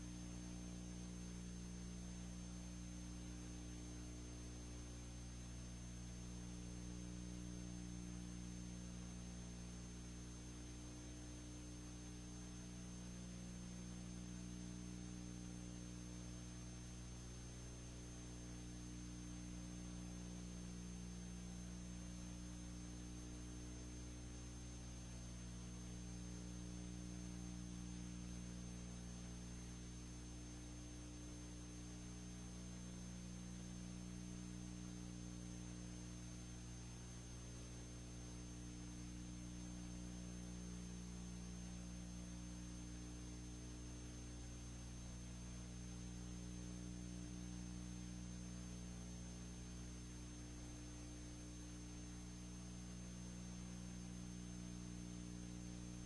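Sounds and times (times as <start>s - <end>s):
electrical hum with hiss: 0.0s - 56.0s
faint high whine: 0.0s - 56.0s.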